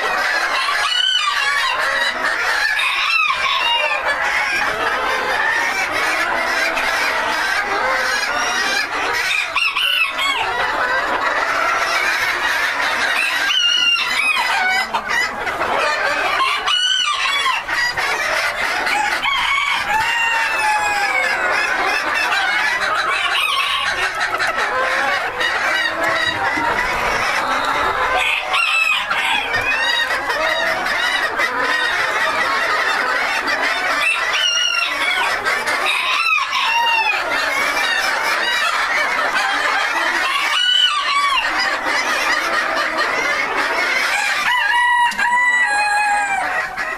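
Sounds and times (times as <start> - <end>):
chickens clucking: 0.0 - 46.9
roosters crowing: 0.0 - 46.9.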